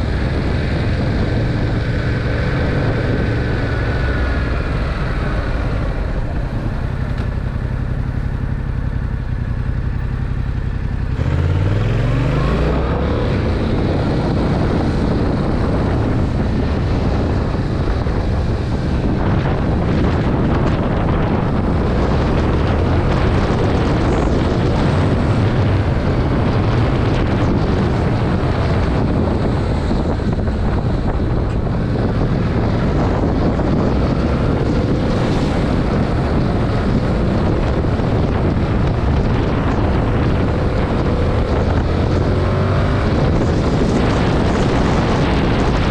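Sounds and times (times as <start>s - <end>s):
motorcycle engine revving: 0.0s - 45.9s
wind noise on microphone: 0.0s - 45.9s.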